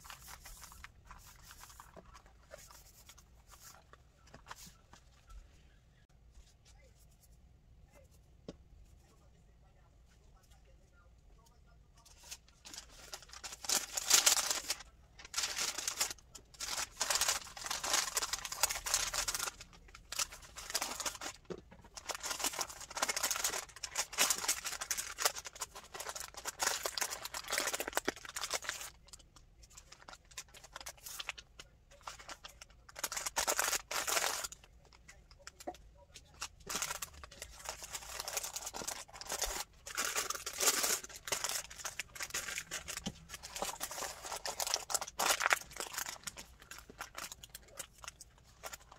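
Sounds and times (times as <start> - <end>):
paper rustling and crinkling: 0.0 - 5.4, 12.0 - 48.9.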